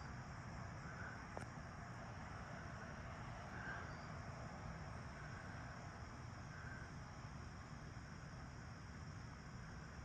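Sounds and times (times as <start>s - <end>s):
crickets and insects chirring: 0.0s - 10.0s.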